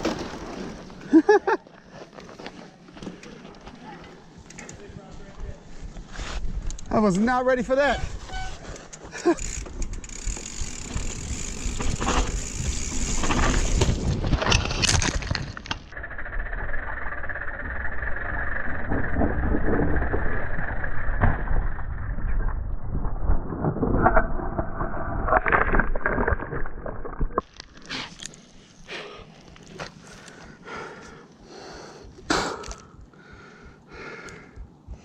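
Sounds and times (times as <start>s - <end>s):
bike rattling over rough trail: 0.0s - 31.2s.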